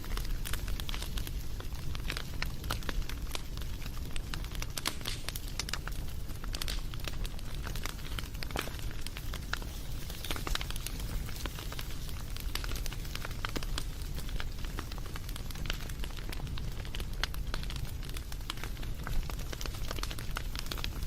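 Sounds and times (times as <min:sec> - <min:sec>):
fire popping and snapping: 0:00.0 - 0:21.0
fire rumbling: 0:00.0 - 0:21.0.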